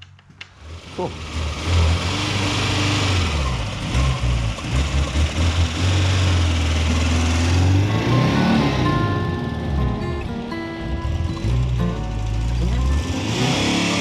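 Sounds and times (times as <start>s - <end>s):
vehicle engine running: 0.4s - 14.0s.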